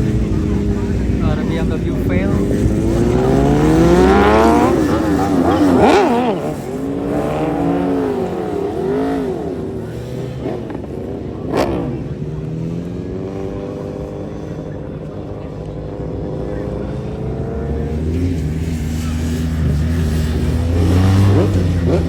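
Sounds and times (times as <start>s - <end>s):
engine revving hard: 0.0s - 12.5s, 16.2s - 22.0s.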